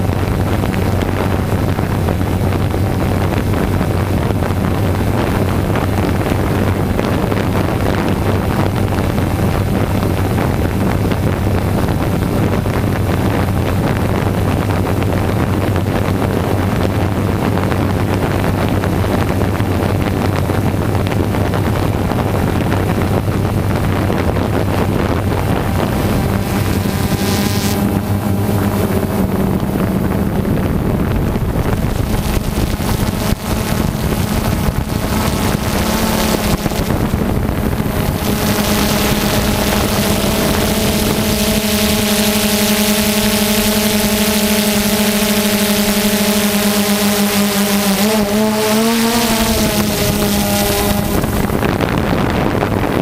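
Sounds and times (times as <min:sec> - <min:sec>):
drone propellers buzzing: 0:00.0 - 0:53.0
wind noise on microphone: 0:00.0 - 0:53.0.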